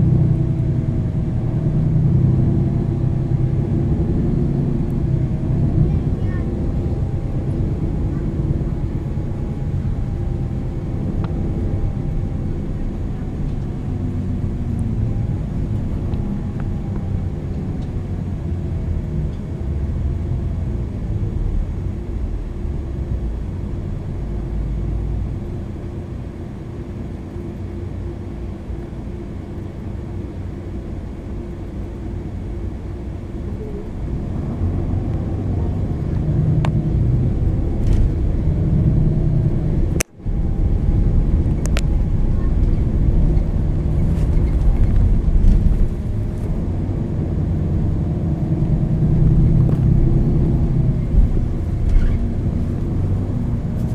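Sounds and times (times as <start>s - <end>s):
bus diesel engine: 0.0s - 53.9s
faint whine wandering in pitch: 0.0s - 53.9s.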